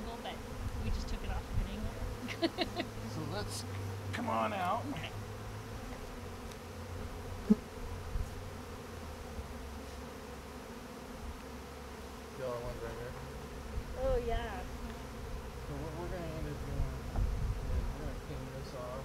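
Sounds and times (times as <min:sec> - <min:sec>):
bees buzzing in flight: 0:00.0 - 0:19.0.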